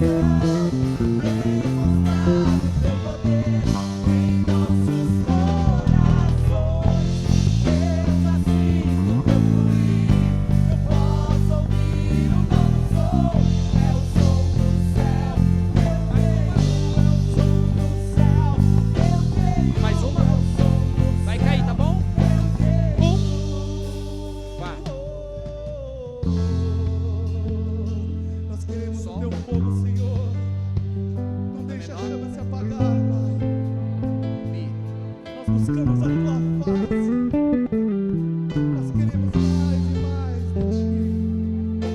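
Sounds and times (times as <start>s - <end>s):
electric guitar melody: 0.0s - 25.2s, 26.3s - 41.9s
band playing instrumental: 0.0s - 41.9s
electric bass notes: 0.0s - 41.9s.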